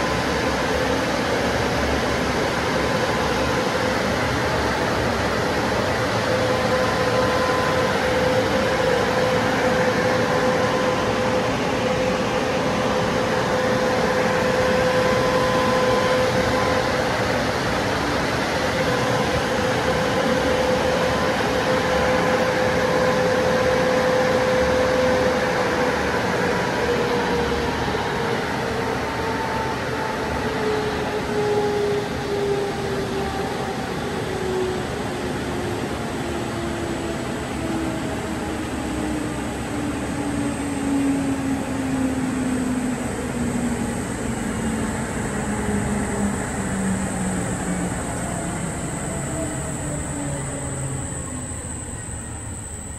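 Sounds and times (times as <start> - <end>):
car wash dryer blowers: 0.0 - 52.9.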